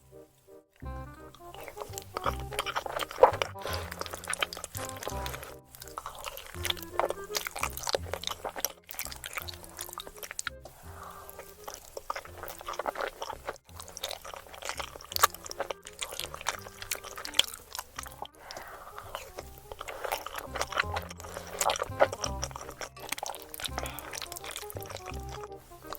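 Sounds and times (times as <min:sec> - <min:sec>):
background music with bass line: 0:00.0 - 0:25.9
wet chewing and crunching: 0:00.8 - 0:25.9.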